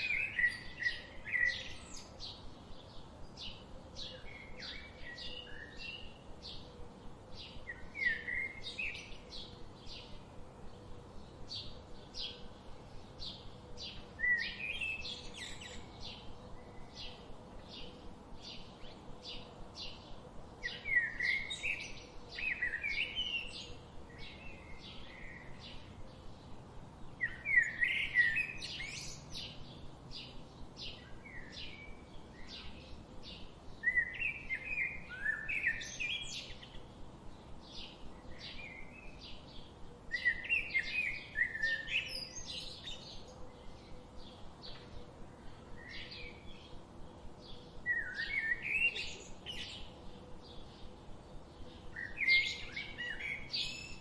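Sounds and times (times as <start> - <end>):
bird warbling song: 0.0 - 6.7, 7.3 - 54.0.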